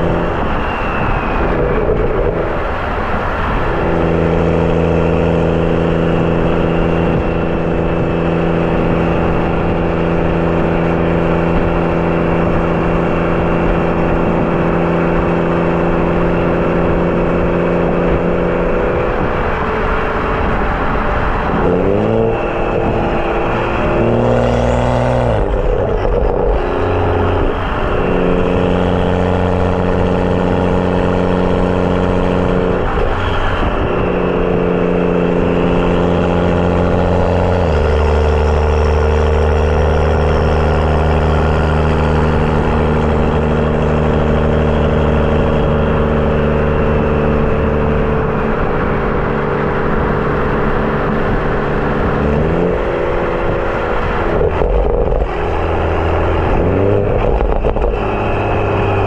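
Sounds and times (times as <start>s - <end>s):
car exhaust while driving: 0.0s - 59.0s.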